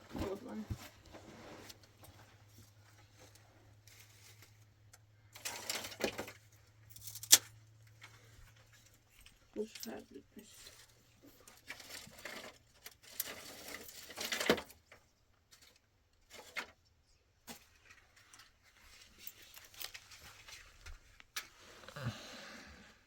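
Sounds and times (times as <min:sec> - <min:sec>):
rustling and handling noises: 0:00.0 - 0:22.1.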